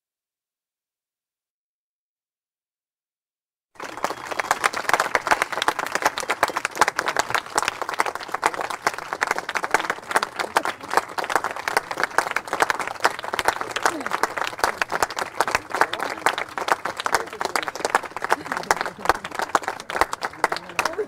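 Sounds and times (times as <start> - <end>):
crowd applauding: 3.8 - 21.0.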